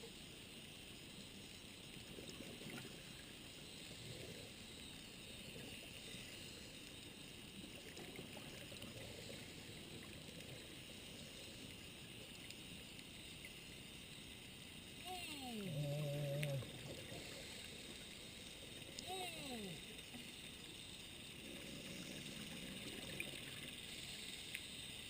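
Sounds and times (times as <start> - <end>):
underwater hiss and rumble: 0.0 - 25.0
faint clicks: 0.6 - 14.9, 15.8 - 19.1, 19.8 - 25.0.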